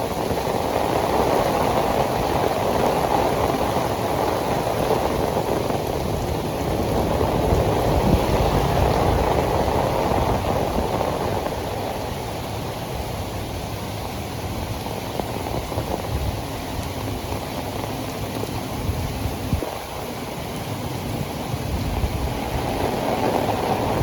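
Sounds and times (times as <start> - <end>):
heavy rain on pavement: 0.0 - 24.0.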